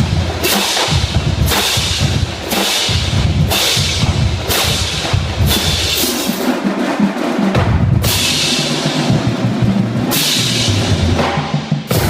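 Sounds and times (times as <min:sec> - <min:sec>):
bass drums: 0:00.0 - 0:06.3, 0:07.6 - 0:12.0
snare drums: 0:00.0 - 0:12.0.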